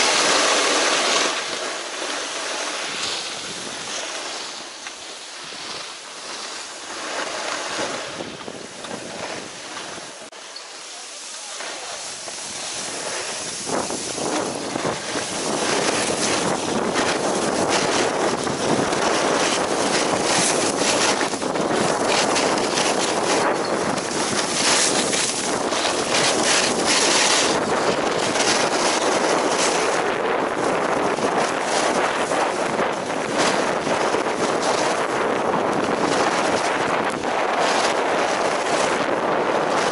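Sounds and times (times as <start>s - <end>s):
skis scraping on snow: 0.0s - 39.9s
wind buffeting microphone: 2.7s - 10.4s, 11.8s - 39.9s.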